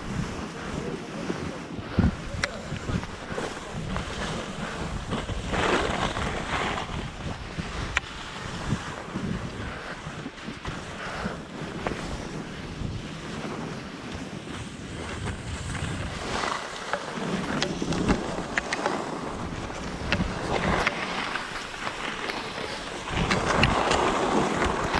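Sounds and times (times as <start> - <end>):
skis scraping on snow: 0.0 - 24.9
wind on microphone: 0.0 - 24.9.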